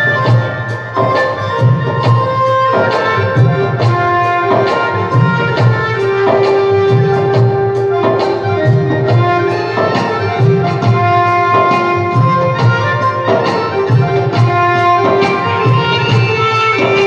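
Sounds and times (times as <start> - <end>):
hand drum strokes: 0.0 - 17.0
melody instrument holding long notes: 0.0 - 17.0.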